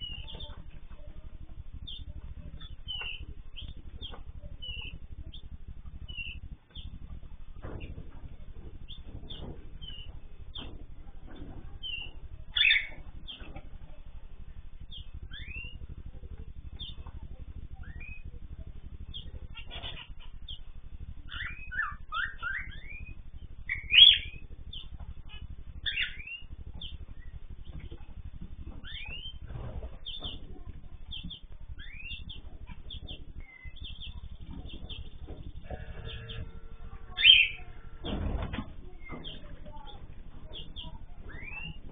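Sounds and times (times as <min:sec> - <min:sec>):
cage birds chirping: 0:00.0 - 0:41.9
steady low hum: 0:00.0 - 0:41.9
steady low rumble: 0:00.0 - 0:41.9.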